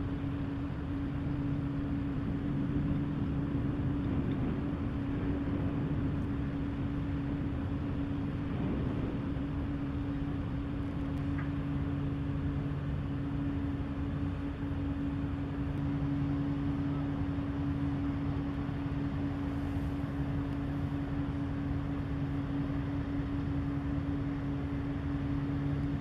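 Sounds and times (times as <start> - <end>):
ship diesel engine droning: 0.0 - 26.0.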